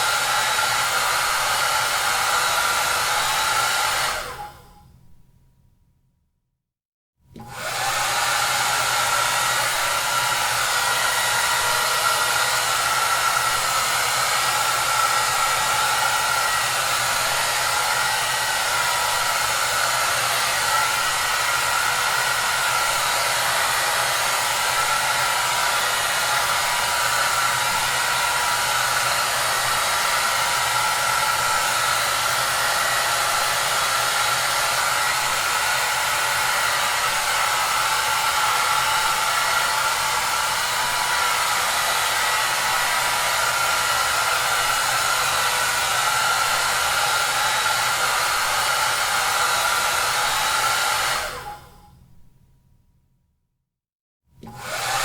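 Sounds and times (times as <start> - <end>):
hair dryer running: 0.0 - 4.8, 7.3 - 51.8, 54.4 - 55.0.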